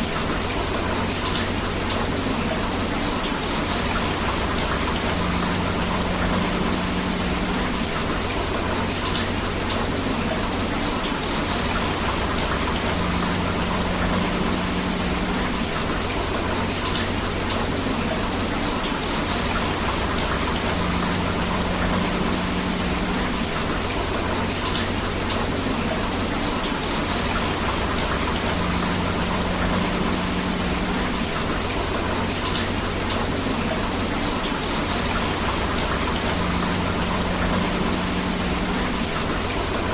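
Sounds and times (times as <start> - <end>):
rushing river water: 0.0 - 39.9
steady rain: 0.0 - 39.9.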